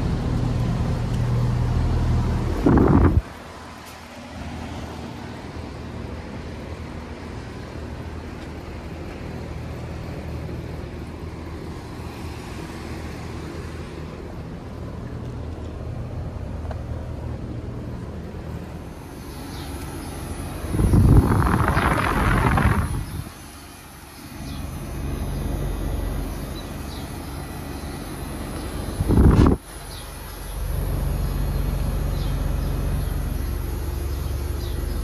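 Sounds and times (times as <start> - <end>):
compressor hum: 0.0 - 35.0
condenser fans rushing: 0.0 - 35.0.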